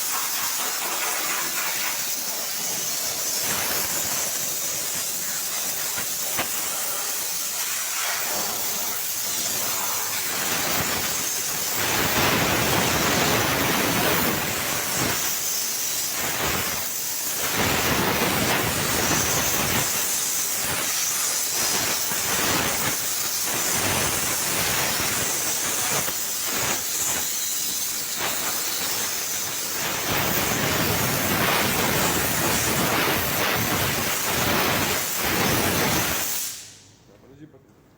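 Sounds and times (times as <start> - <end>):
steam cleaner jet hissing: 0.0 - 36.9.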